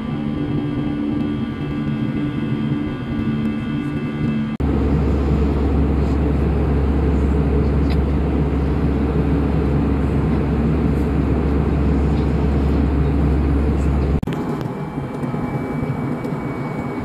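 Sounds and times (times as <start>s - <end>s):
airliner cabin rush and drone: 0.0s - 17.0s.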